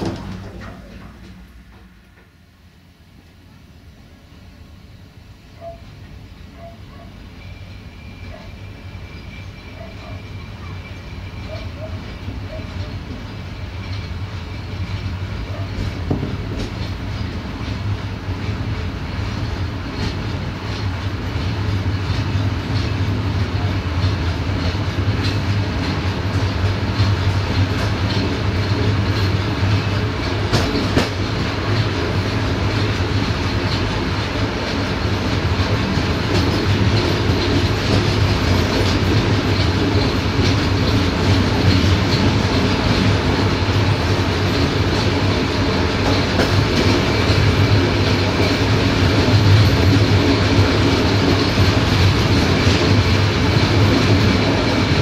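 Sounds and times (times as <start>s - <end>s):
wheels clicking over rail joints: 0.0s - 2.4s, 11.4s - 55.0s
train carriage rumble and rattle: 0.0s - 55.0s.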